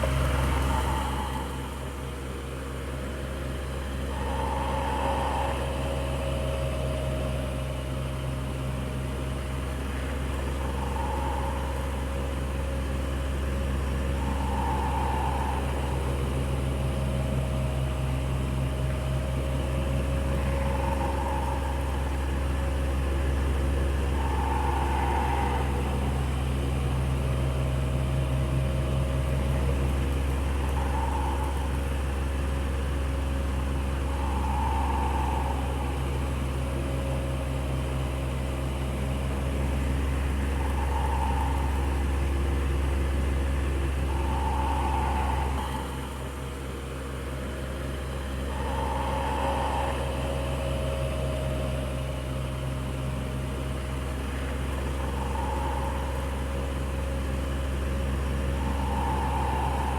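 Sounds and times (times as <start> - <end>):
electric fan running: 0.0 - 59.9
faint higher fan tone: 0.0 - 59.9.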